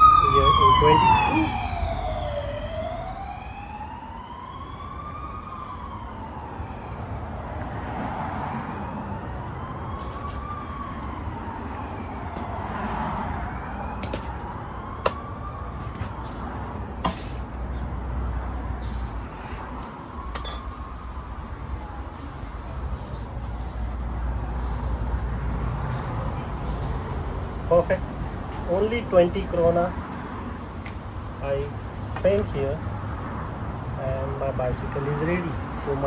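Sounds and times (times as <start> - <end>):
emergency siren wailing: 0.0 - 30.6.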